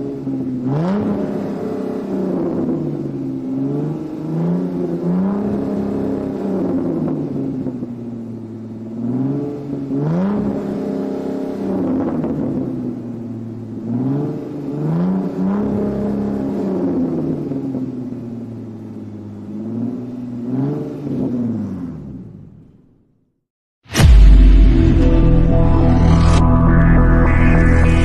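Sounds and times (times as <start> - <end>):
car engine revving: 0.0 - 23.0, 24.0 - 28.0.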